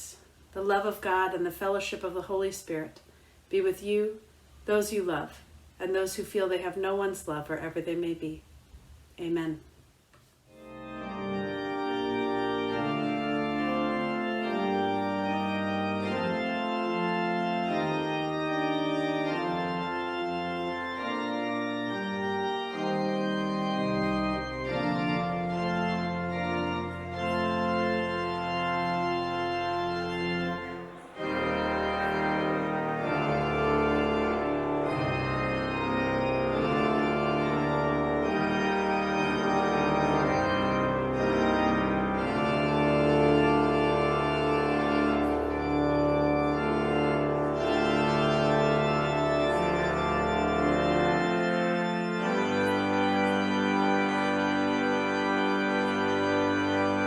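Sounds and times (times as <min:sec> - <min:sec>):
organ playing sustained chords: 0:10.5 - 0:57.0.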